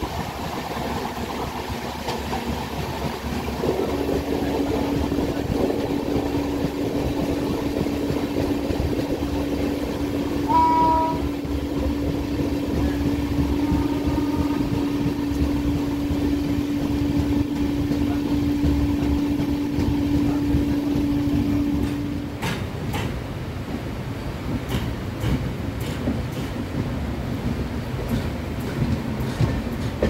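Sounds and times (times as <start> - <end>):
train rumble: 0.0 - 30.0
wheels clacking on rails: 0.0 - 30.0.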